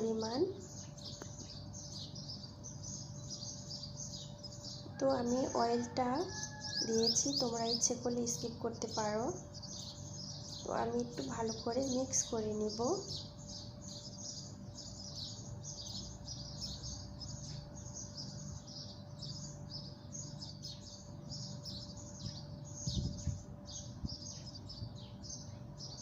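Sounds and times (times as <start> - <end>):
low steady hum: 0.0 - 26.0
small birds chirping: 0.0 - 26.0.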